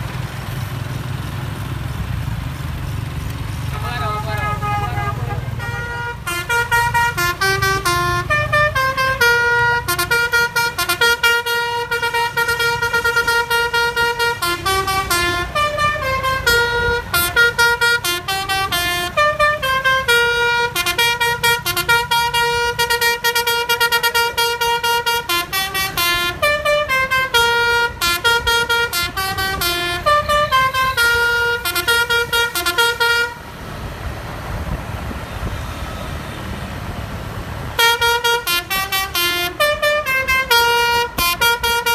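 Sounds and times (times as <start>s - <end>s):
bus engine rumble: 0.0s - 41.9s
road noise: 0.0s - 41.9s
musical bus horn tune: 3.7s - 33.6s, 37.7s - 41.9s.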